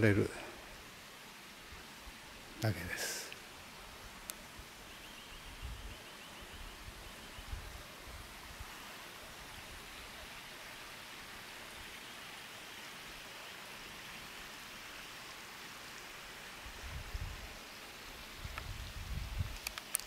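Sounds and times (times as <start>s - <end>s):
soft outdoor hiss: 0.0s - 20.0s.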